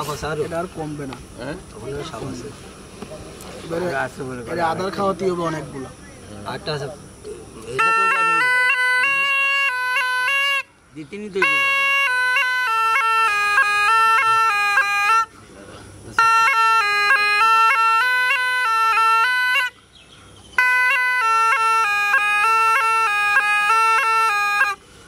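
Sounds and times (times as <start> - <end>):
reedy gourd pipe melody: 0.0 - 25.0.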